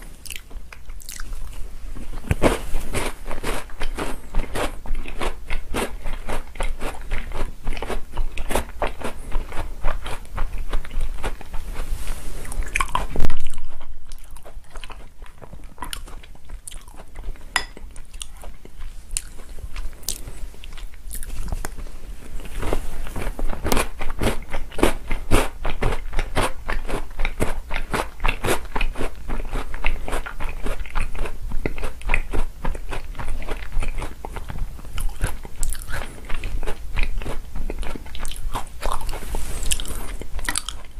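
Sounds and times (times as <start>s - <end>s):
chewing and crunching cookies: 0.0s - 40.9s.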